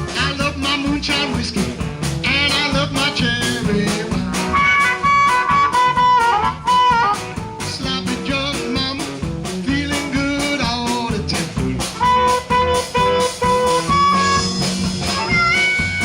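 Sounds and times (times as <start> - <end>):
blues band playing live: 0.0 - 16.0
lead guitar bending held notes: 0.0 - 16.0.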